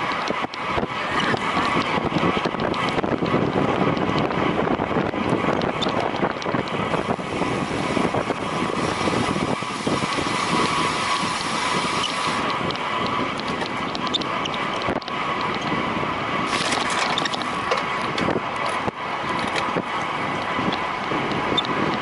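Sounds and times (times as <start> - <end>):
road and tyre noise: 0.0 - 22.0
wind rushing over microphone: 0.0 - 22.0.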